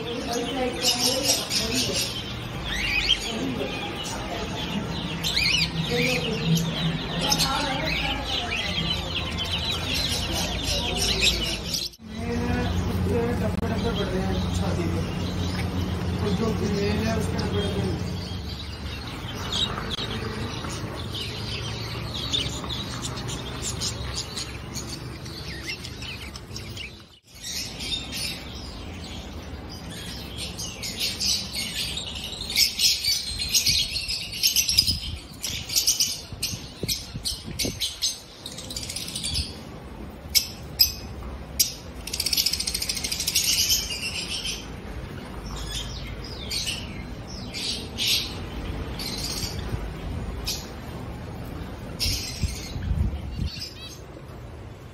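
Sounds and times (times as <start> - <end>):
birds chirping and twittering: 0.0 - 54.9.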